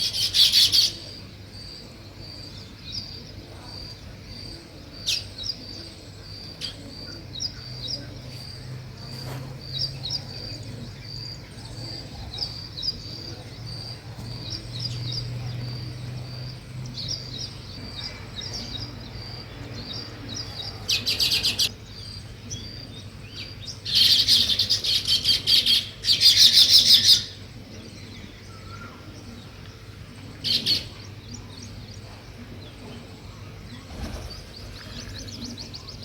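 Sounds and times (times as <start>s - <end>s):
birds chattering fast: 0.0s - 36.0s
small birds chirping: 0.0s - 36.0s.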